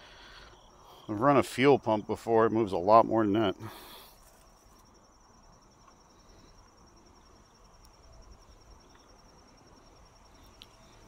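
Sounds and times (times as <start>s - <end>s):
cricket trill: 0.0s - 11.0s.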